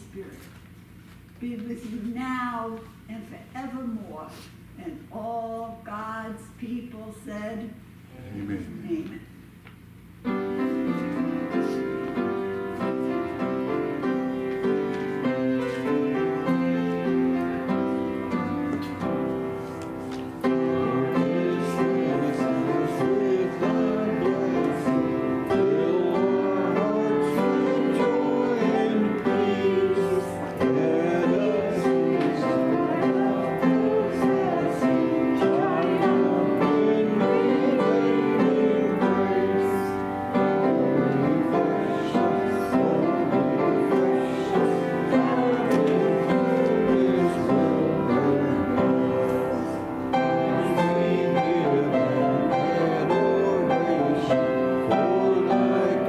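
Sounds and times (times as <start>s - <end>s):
slow instrumental keyboard music: 10.2s - 56.0s.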